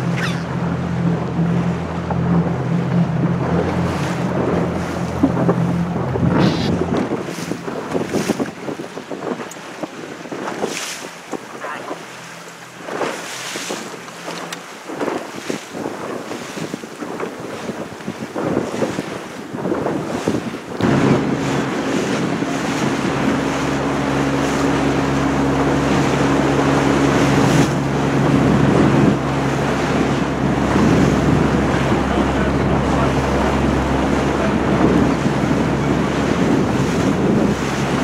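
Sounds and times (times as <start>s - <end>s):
boat engine humming: 0.0s - 38.0s
water rushing past hull: 0.0s - 38.0s
wind buffeting microphone: 0.0s - 38.0s.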